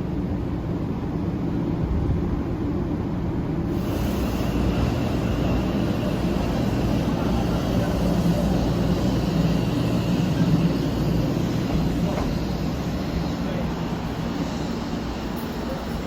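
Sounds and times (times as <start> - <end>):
train running rumble: 0.0 - 16.0.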